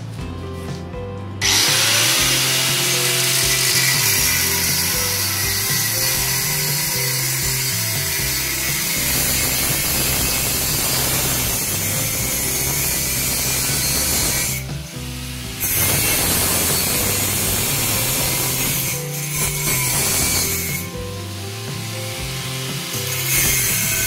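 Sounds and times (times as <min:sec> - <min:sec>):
background music with bass line: 0:00.0 - 0:24.0
metalworking tool grinding steel: 0:01.4 - 0:24.0.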